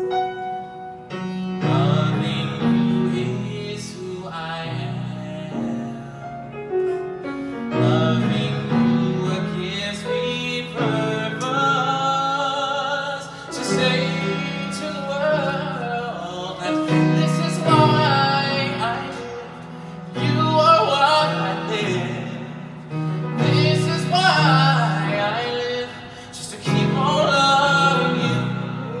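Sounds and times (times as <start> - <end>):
piano accompaniment: 0.0 - 29.0
man singing a ballad: 1.4 - 29.0.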